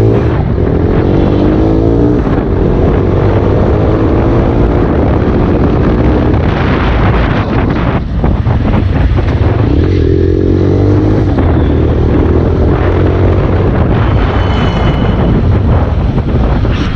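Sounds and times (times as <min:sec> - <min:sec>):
wind noise on microphone: 0:00.0 - 0:16.9.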